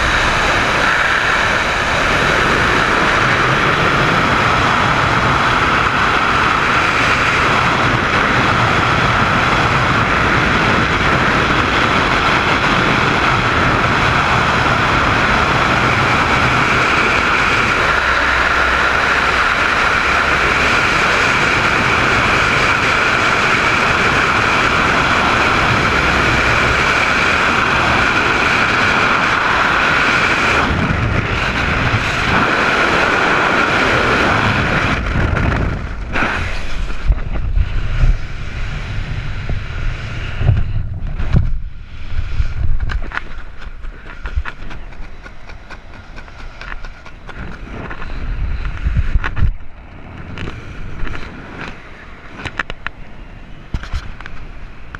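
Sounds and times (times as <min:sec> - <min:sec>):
gusty wind buffeting: 0:00.0 - 0:54.9
wind rushing over microphone: 0:00.0 - 0:54.9.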